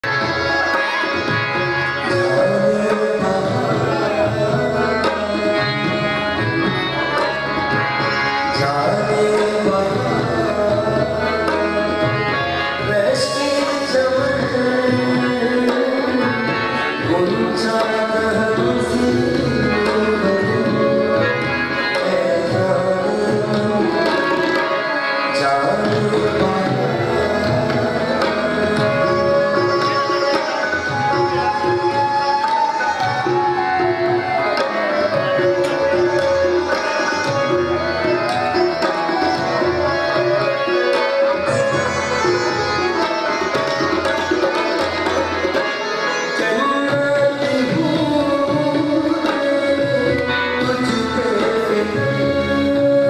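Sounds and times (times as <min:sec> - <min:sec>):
flute playing: 0:00.0 - 0:53.0
harmonium: 0:00.0 - 0:53.0
tabla drumming: 0:00.0 - 0:53.0
man singing: 0:02.0 - 0:06.8, 0:08.4 - 0:44.5, 0:46.3 - 0:53.0.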